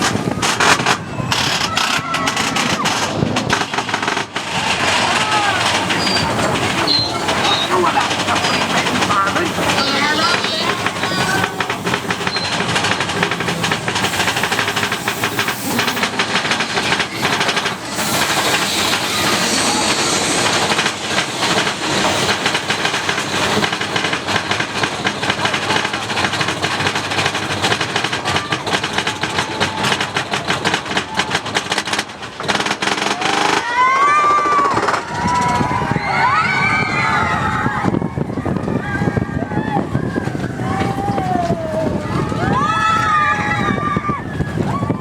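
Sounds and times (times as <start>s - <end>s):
roller coaster cars rattling on track: 0.0s - 45.0s.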